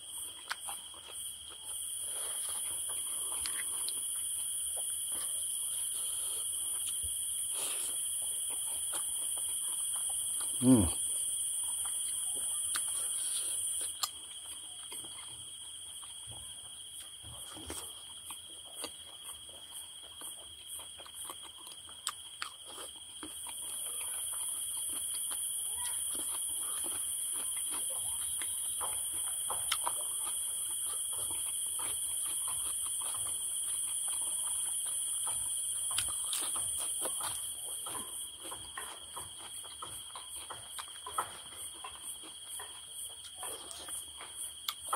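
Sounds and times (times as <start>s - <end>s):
insects chirring: 0.0s - 44.9s.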